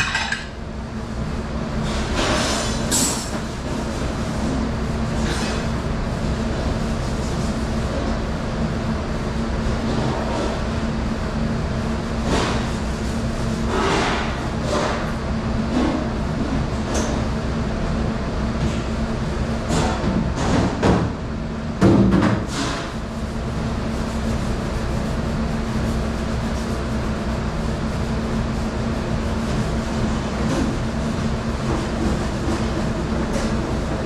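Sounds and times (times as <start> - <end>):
dishwashing machinery humming: 0.0 - 34.0.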